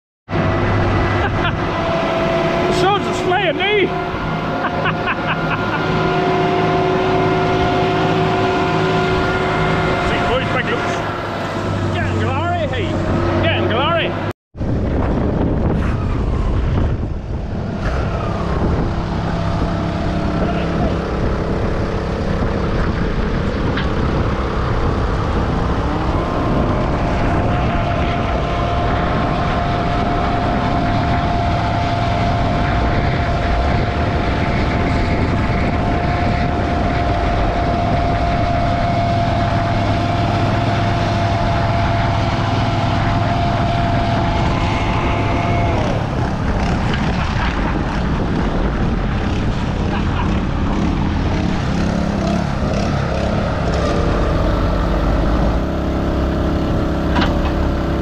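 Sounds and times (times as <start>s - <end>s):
diesel tractor engine straining: 0.3s - 58.0s.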